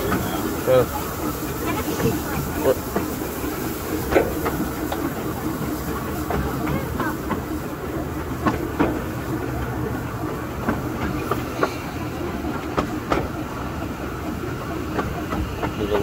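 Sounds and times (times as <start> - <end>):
railway carriage rumble: 0.0 - 16.0
wheels clicking and knocking on rails: 0.0 - 16.0.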